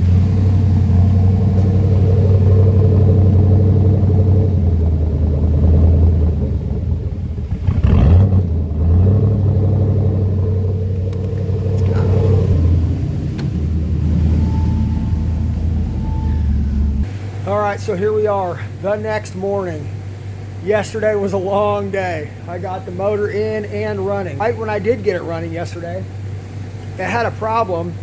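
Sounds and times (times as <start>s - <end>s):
engine idling roughly: 0.0s - 28.0s.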